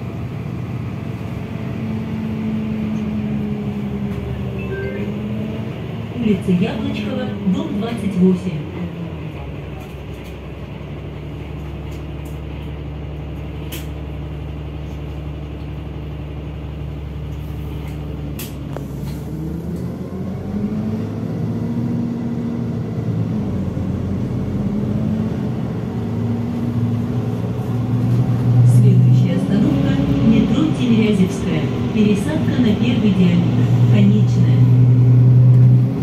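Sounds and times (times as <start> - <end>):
bus drivetrain drone: 0.0 - 36.0.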